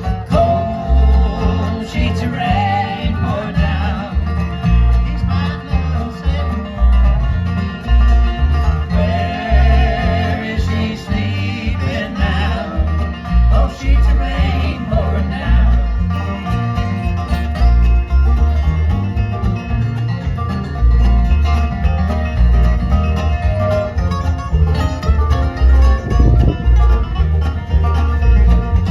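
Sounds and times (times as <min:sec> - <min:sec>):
banjo picking: 0:00.0 - 0:28.9
bass beat: 0:00.0 - 0:28.9
bluegrass band playing: 0:00.0 - 0:28.9.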